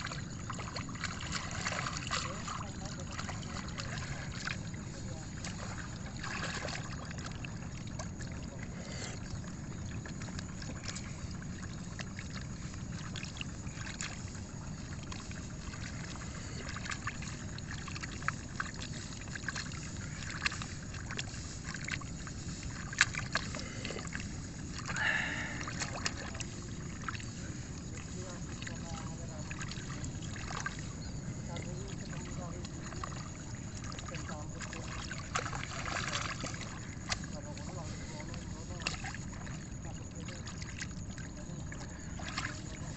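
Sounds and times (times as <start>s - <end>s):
mud and water squelching: 0.0s - 42.9s
steady low rumble: 0.0s - 42.9s.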